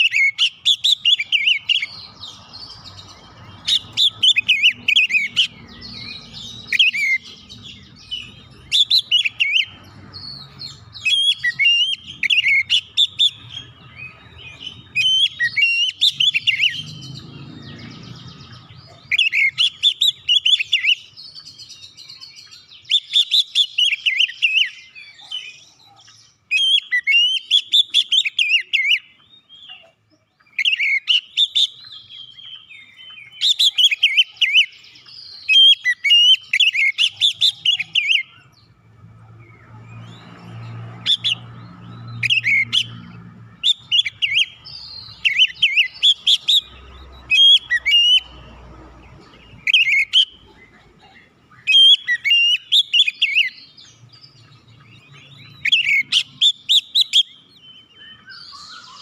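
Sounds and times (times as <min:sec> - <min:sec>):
magpie-robin singing: 0:00.0 - 0:59.0.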